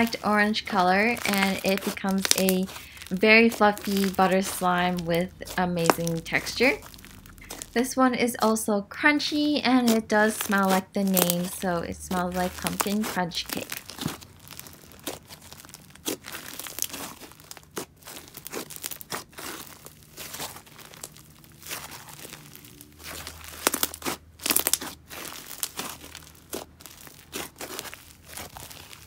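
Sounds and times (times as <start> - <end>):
crunchy slime crackling: 0.0 - 29.0.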